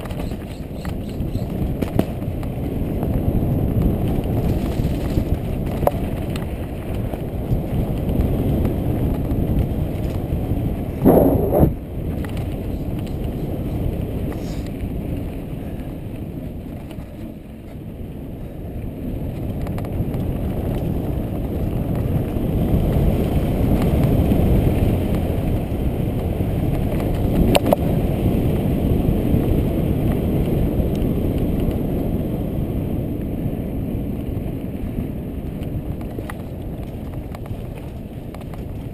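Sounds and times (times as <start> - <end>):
bike rattling: 0.0 - 38.9
wind rumble on microphone: 0.0 - 38.9.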